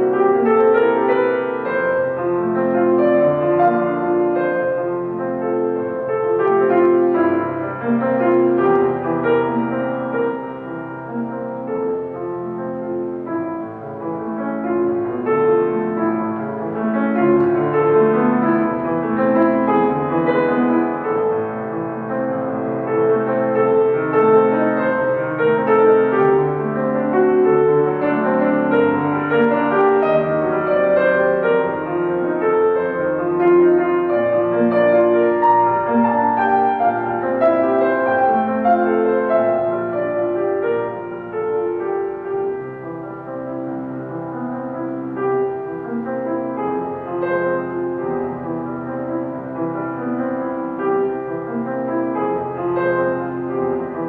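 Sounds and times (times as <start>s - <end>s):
solo classical piano: 0.0s - 54.0s.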